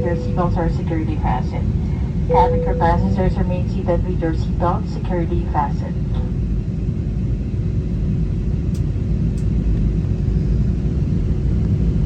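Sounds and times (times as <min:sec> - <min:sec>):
engine and airflow rumble: 0:00.0 - 0:12.0
faint steady hum: 0:00.0 - 0:12.0.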